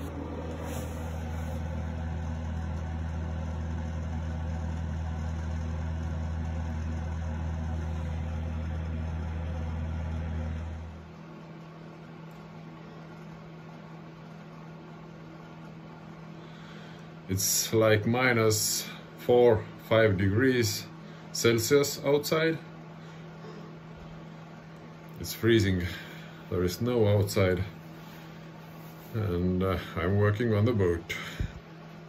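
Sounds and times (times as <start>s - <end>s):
faint steady hum: 0.0s - 32.0s
machine humming: 0.0s - 32.0s.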